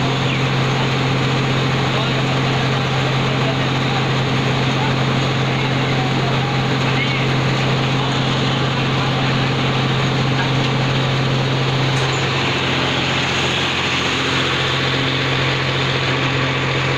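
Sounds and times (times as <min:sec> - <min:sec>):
machine mechanical drone: 0:00.0 - 0:16.9.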